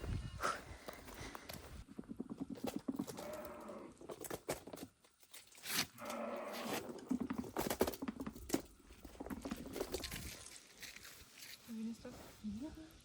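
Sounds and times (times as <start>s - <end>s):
rustling: 0.7s - 12.8s.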